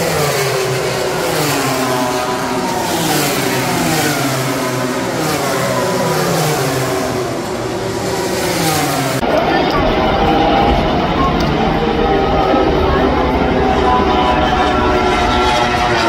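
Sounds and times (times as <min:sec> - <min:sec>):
race motorcycles passing: 0:00.0 - 0:16.0.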